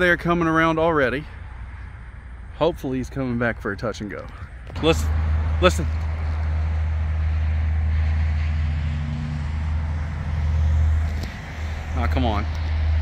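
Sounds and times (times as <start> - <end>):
low rumble of vehicle noise: 0.0 - 13.0.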